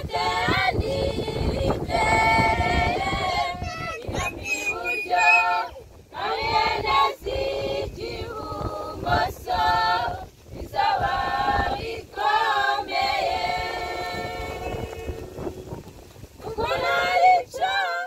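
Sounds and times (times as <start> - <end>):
young women singing a cappella: 0.0 - 15.8, 16.4 - 18.0.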